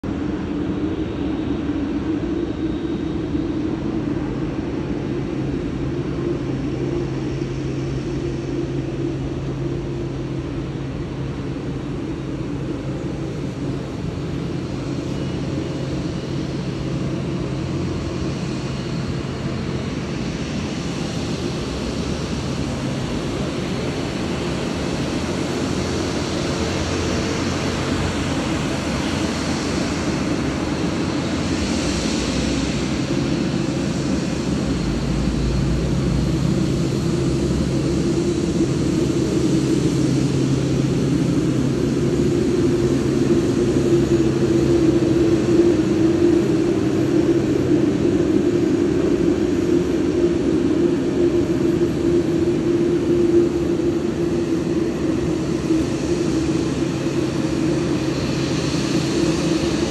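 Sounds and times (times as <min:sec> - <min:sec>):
jet engines idling: 0:00.1 - 0:59.9
jet engine hiss: 0:00.2 - 0:59.9.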